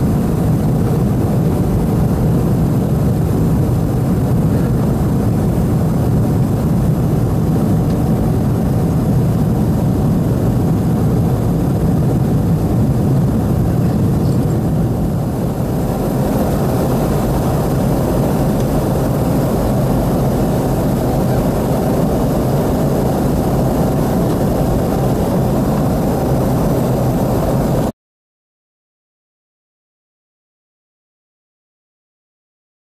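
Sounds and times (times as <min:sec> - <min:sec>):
air rushing over fuselage: 0:00.0 - 0:27.9
jet engines cabin drone: 0:00.0 - 0:27.9.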